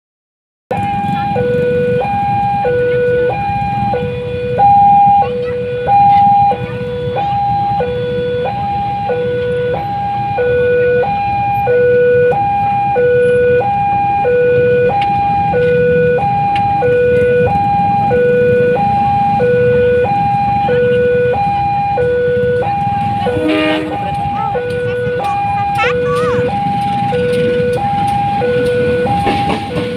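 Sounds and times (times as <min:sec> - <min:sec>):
level crossing two-tone alarm: 0:00.7 - 0:29.9.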